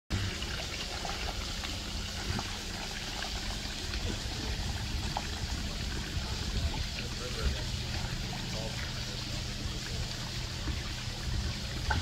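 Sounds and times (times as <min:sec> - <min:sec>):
low steady rumble: 0:00.1 - 0:12.0
water trickling over rocks: 0:00.1 - 0:12.0.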